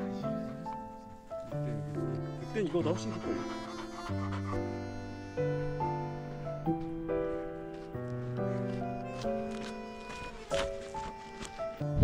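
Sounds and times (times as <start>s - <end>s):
background music chords: 0.0s - 12.0s.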